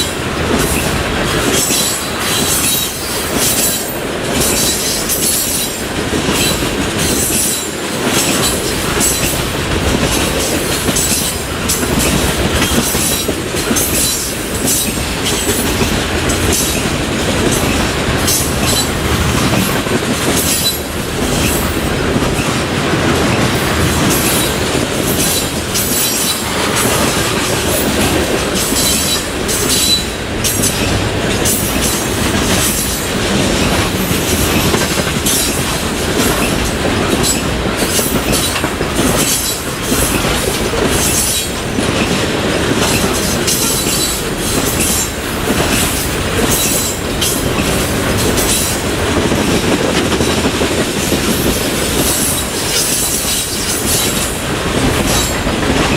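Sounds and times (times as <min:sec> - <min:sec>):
freight train rumbling past: 0:00.0 - 0:55.9
wheels clicking over rail joints: 0:00.0 - 0:55.9.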